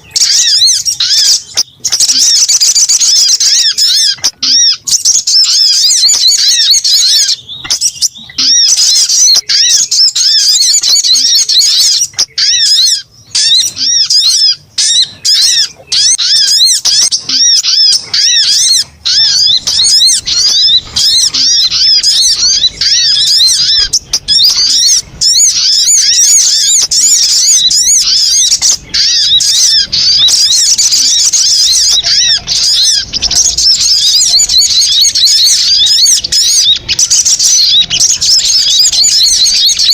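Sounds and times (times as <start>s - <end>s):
bird calling rapid high chirps: 0.0s - 39.9s.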